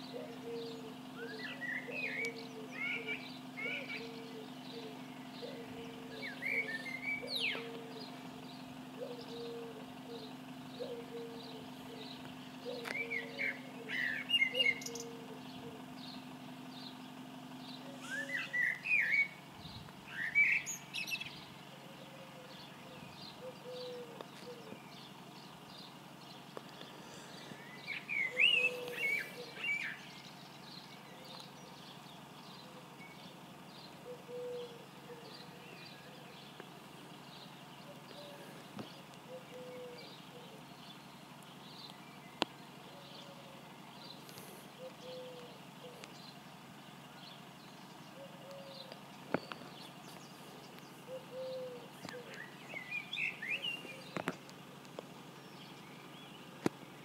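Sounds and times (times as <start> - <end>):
birds singing in chirping bursts: 0.0 - 57.0
steady low hum: 0.0 - 57.0.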